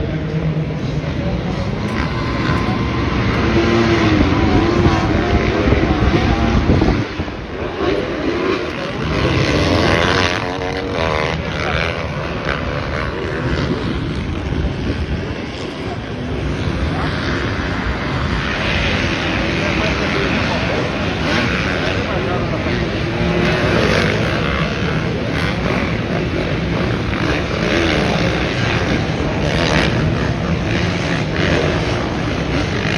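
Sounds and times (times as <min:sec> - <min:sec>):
dirt bike engines revving: 0:00.0 - 0:32.9
noisy wash: 0:00.0 - 0:32.9.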